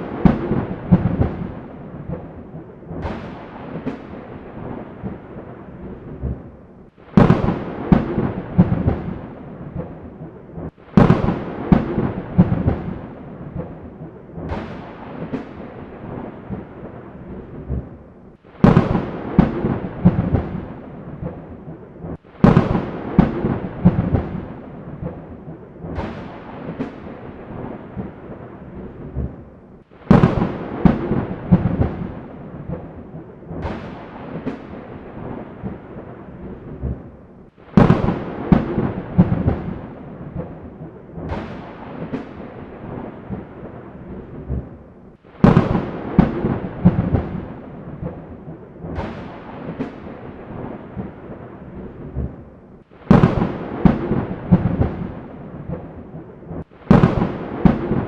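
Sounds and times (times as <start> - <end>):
thunderclaps and rumble: 0.0 - 58.0.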